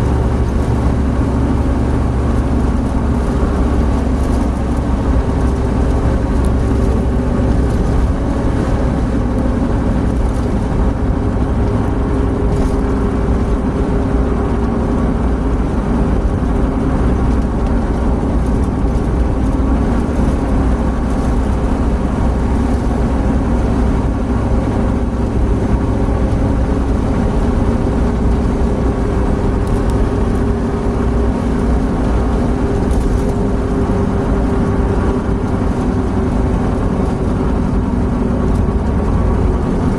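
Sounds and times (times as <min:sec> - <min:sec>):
car cabin road drone: 0:00.0 - 0:39.9.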